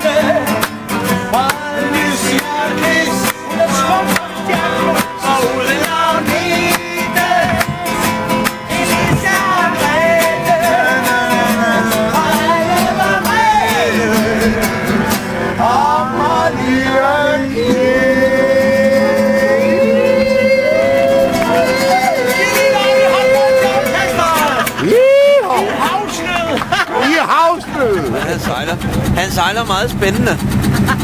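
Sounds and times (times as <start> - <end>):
man singing: 0.0 - 24.9
acoustic guitar strumming: 0.0 - 31.0.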